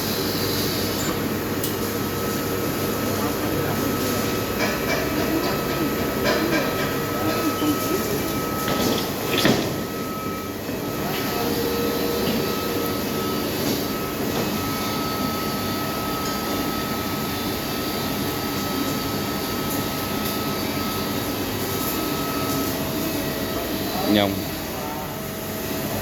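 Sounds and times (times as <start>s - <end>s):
machine running with high whine: 0.0s - 26.0s.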